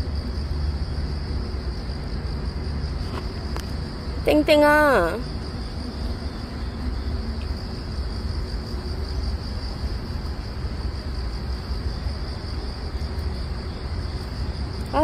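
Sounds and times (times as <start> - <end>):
insects droning: 0.0 - 15.0
low background rumble: 0.0 - 15.0.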